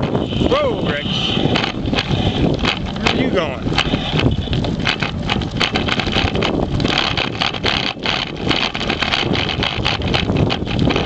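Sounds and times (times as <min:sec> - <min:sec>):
scooter rattling clatter: 0:00.0 - 0:11.0
steady rumble: 0:00.0 - 0:11.0
wind buffeting microphone: 0:00.0 - 0:11.0.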